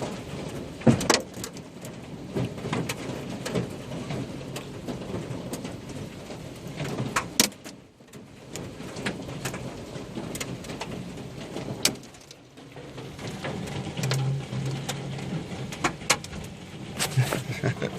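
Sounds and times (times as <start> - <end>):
hailstones knocking hard surfaces: 0.0 - 17.9
hiss of falling rain and hail: 0.0 - 17.9.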